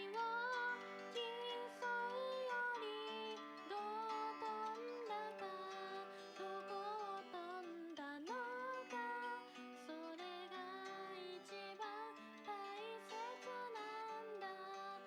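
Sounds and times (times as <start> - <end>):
acoustic guitar: 0.0 - 15.0
person singing gently: 0.0 - 15.0.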